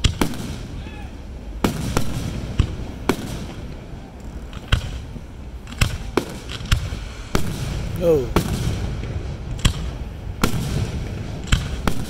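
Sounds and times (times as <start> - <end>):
firework shells bursting: 1.6 - 12.0.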